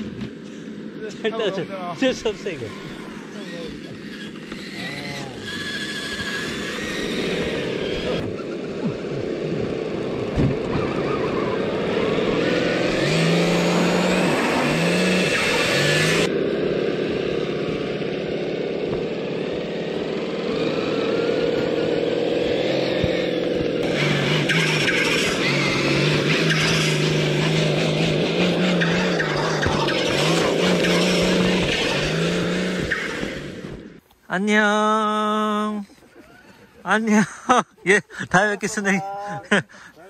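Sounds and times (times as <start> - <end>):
electric motor whining: 0.0 - 34.1.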